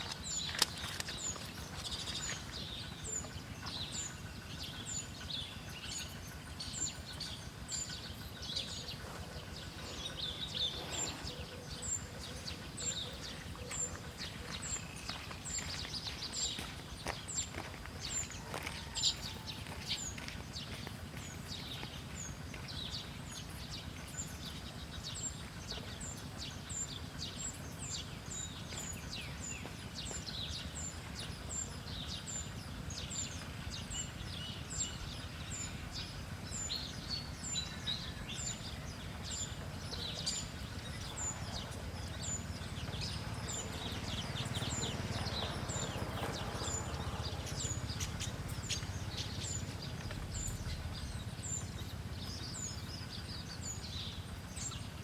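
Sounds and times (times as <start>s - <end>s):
low rumbling background noise: 0.0s - 55.0s
small birds chirping: 0.0s - 55.0s.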